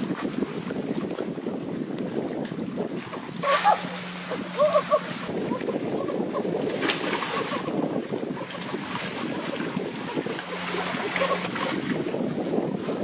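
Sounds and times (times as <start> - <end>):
sea water sloshing: 0.0 - 13.0
wind noise on microphone: 0.0 - 13.0
water splash: 2.4 - 13.0.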